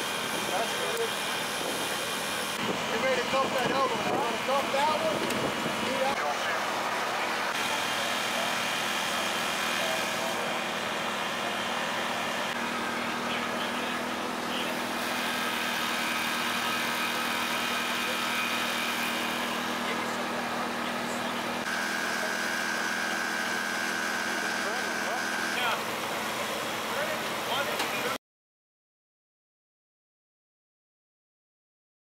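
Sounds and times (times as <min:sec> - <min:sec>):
engine running with whine: 0:00.0 - 0:28.2.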